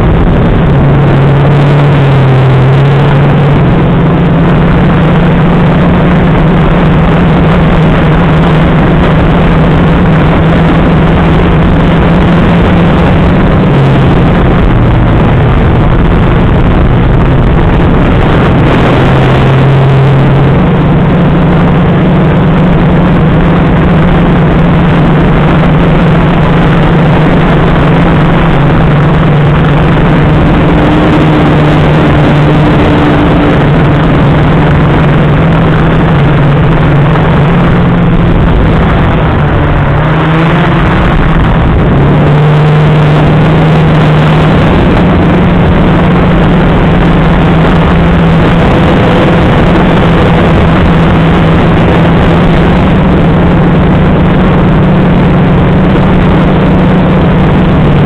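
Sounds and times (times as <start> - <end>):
rushing noise: 0.0 - 58.0.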